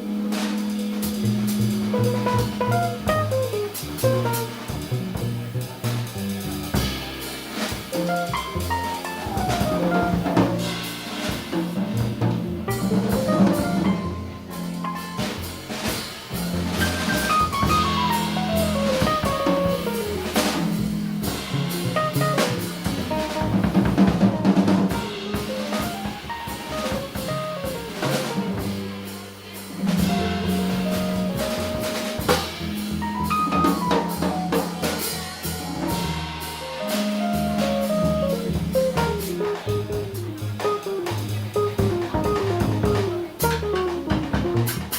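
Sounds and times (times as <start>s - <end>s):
drum kit rimshots: 0.0s - 44.9s
jazz band playing: 0.0s - 44.9s
sustained bass line: 1.1s - 6.2s, 11.8s - 28.8s, 29.7s - 34.6s, 35.7s - 44.9s.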